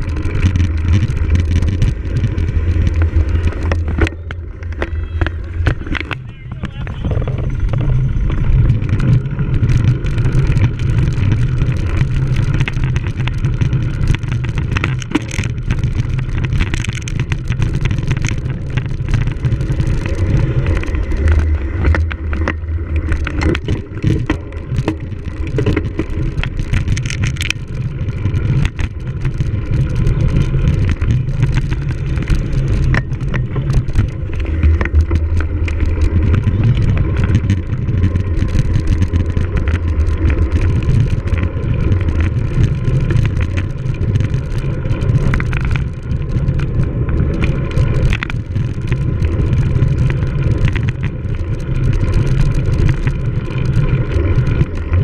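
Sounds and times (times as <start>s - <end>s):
bike rattles and clicks: 0.0s - 55.0s
bike rumbling over rough ground: 0.0s - 55.0s
wind on microphone: 0.0s - 55.0s.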